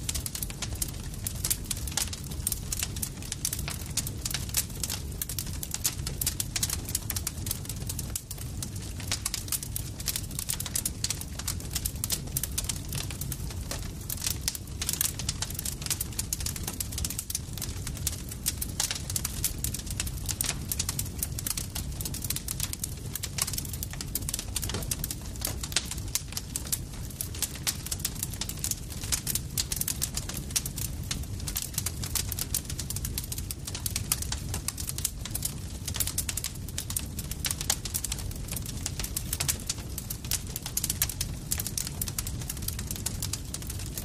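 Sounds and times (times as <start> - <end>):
burning wood crackling and popping: 0.0 - 44.0
low rumble of flames: 0.0 - 44.0.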